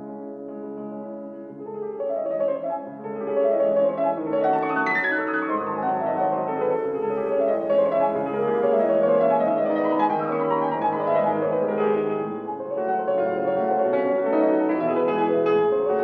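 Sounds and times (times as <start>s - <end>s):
classical piano music: 0.0s - 16.0s.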